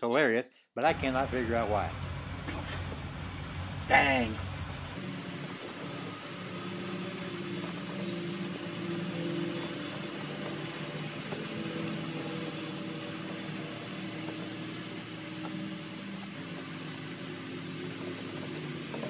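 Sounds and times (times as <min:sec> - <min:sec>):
engine idling hum: 0:00.9 - 0:19.0.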